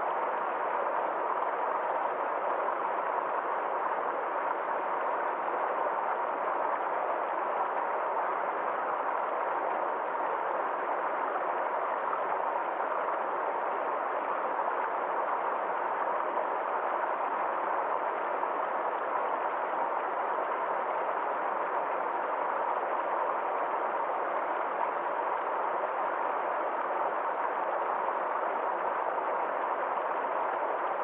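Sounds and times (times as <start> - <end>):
small stream flowing: 0.0 - 31.0.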